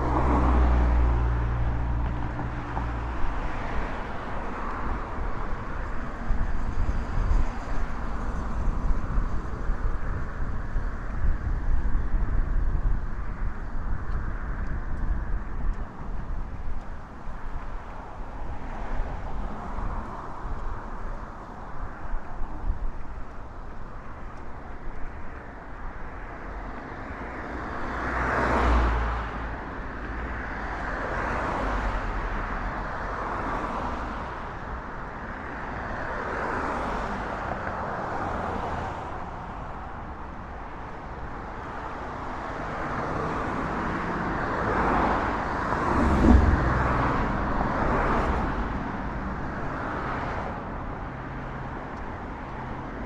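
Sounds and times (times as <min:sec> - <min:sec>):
cars passing: 0:00.0 - 0:53.0.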